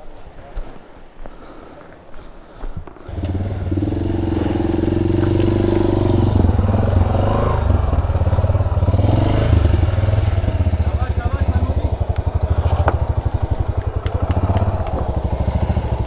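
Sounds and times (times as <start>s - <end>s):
motorcycle engine at low revs: 3.0s - 16.0s.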